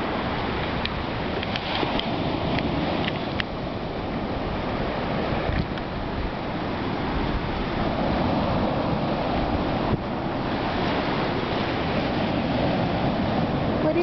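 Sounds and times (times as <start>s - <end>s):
ocean surf breaking on beach: 0.0s - 14.0s
wind buffeting microphone: 0.0s - 14.0s.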